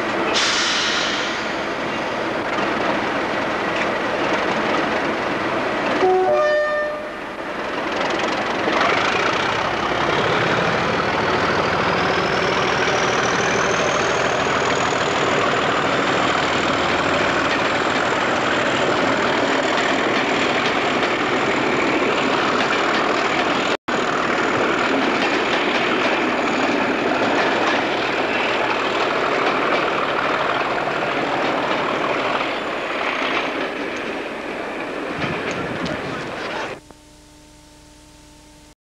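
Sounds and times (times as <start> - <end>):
diesel locomotive pulling away: 0.0 - 36.8.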